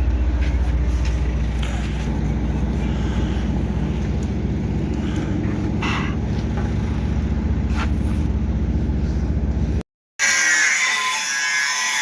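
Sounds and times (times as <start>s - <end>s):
vehicle engine droning: 0.0s - 9.8s.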